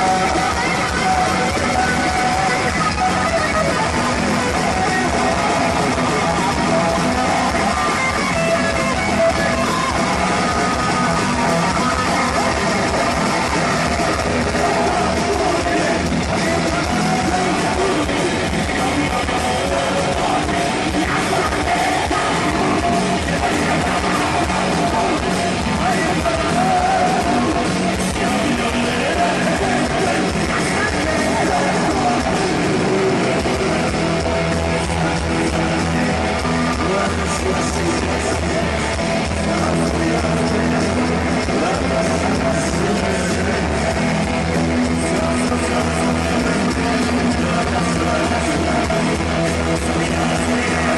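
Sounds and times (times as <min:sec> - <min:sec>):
distorted electric guitars: 0:00.0 - 0:50.9
drums: 0:00.0 - 0:50.9.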